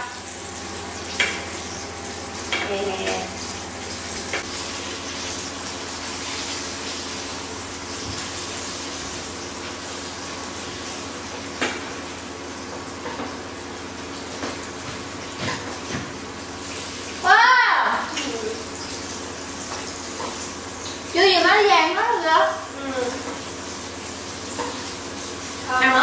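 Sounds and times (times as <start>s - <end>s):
chicken frying in hot oil: 0.0s - 26.0s.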